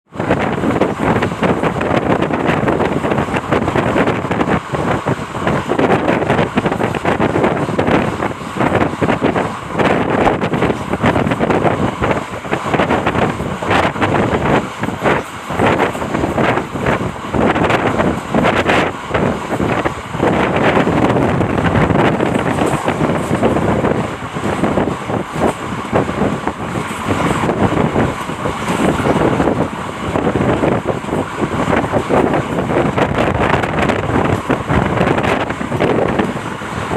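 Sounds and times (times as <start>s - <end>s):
wind buffeting microphone: 0.0s - 36.9s
vehicle rumbling: 0.1s - 36.9s.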